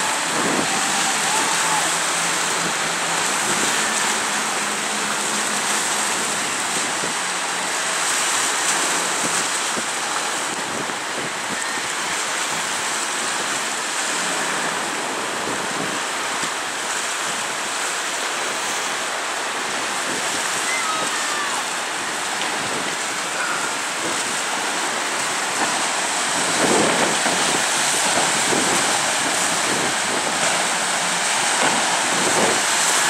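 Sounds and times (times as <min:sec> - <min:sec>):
water churning along ship hull: 0:00.0 - 0:33.0
wind: 0:00.0 - 0:33.0.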